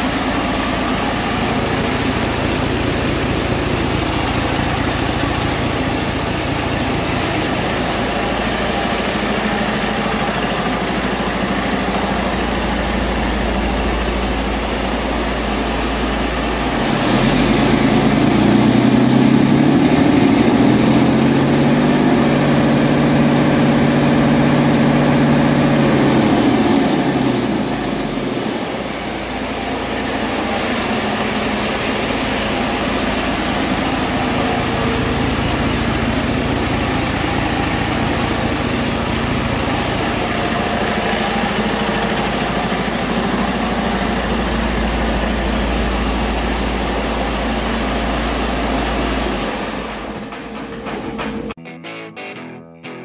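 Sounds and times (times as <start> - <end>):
diesel engine running: 0.0 - 51.7.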